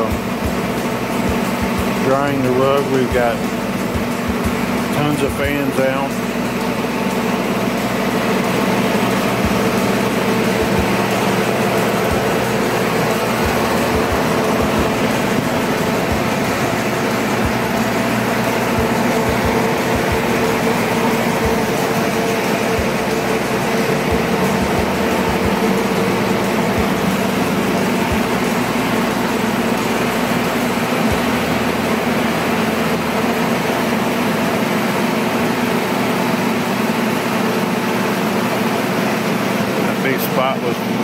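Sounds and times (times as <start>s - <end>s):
fan motor hum: 0.0s - 41.0s
fans blowing air: 0.0s - 41.0s.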